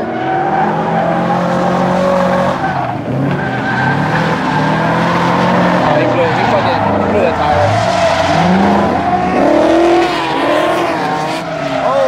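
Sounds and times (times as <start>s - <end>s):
car engine at high revs: 0.0s - 12.0s
tyres squealing and skidding: 0.0s - 12.0s.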